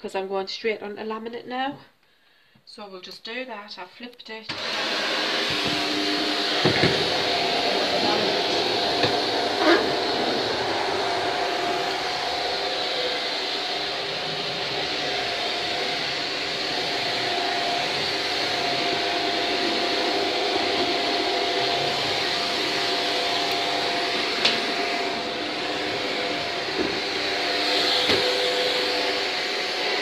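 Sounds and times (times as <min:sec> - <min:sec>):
vacuum cleaner running: 0:04.5 - 0:30.0.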